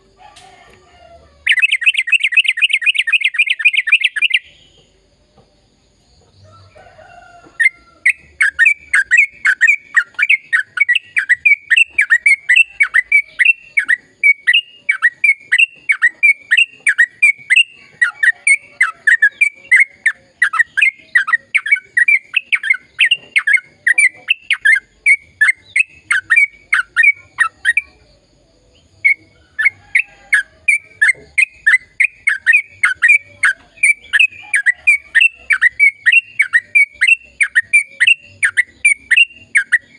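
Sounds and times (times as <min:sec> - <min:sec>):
bird singing downward notes: 0:01.4 - 0:04.9, 0:07.6 - 0:39.9.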